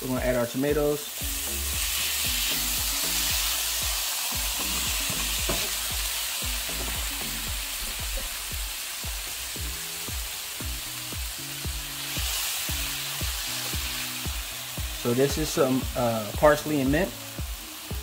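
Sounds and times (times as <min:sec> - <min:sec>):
vegetables sizzling in a pan: 0:00.0 - 0:18.0.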